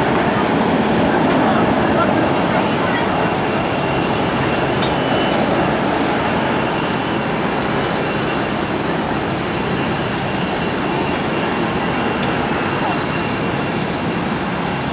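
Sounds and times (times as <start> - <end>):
faint high whine: 0.0 - 14.9
jet aircraft rumbling hiss: 0.0 - 14.9.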